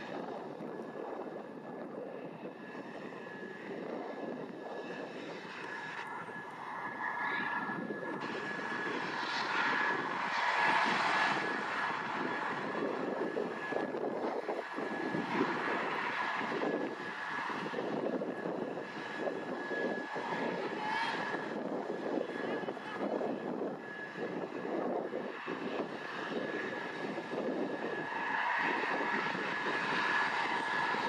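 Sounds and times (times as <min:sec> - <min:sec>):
helicopter rotor and engine noise: 0:00.0 - 0:31.0
high turbine whine: 0:00.0 - 0:31.0.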